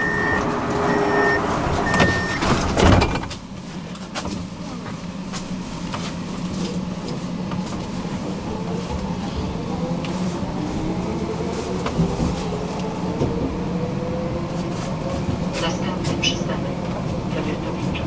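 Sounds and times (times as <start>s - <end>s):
tram motor whine: 0.0s - 18.0s.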